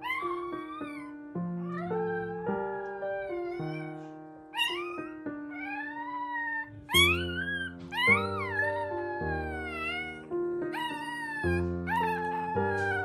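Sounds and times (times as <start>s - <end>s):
puppies squealing and whining: 0.0s - 13.0s
soft piano music: 0.0s - 13.0s.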